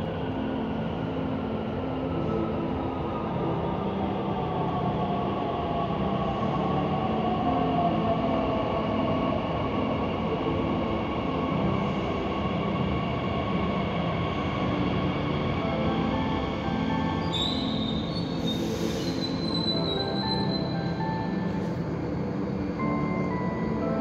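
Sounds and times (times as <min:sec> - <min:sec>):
train rumble echoing in station: 0:00.0 - 0:24.0.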